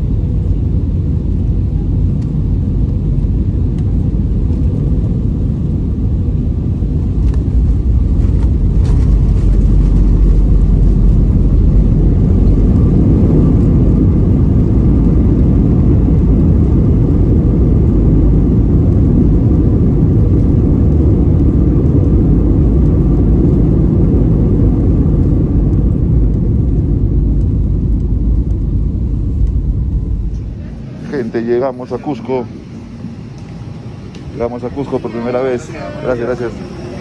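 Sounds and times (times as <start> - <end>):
deep rumble of jet engines: 0.0 - 37.0.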